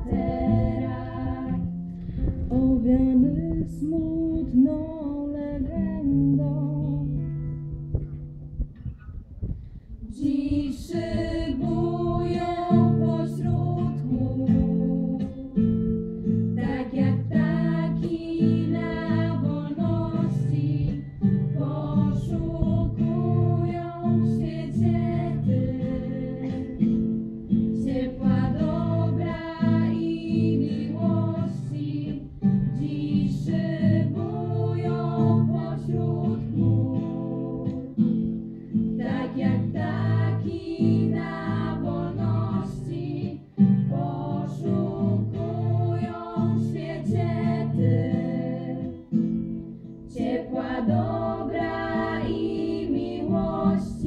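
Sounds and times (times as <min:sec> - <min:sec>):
women singing together: 0:00.0 - 0:01.8, 0:02.5 - 0:07.2, 0:10.0 - 0:54.0
strummed acoustic guitar: 0:00.0 - 0:04.6, 0:10.9 - 0:54.0.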